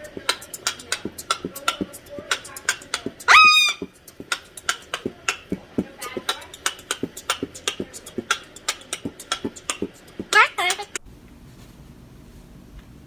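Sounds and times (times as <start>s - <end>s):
fast rhythmic clicks and beats: 0.0s - 11.1s.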